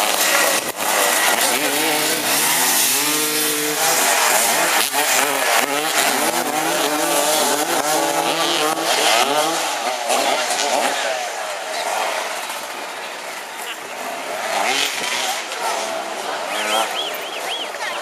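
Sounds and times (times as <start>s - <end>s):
racing engines revving past: 0.0s - 18.0s.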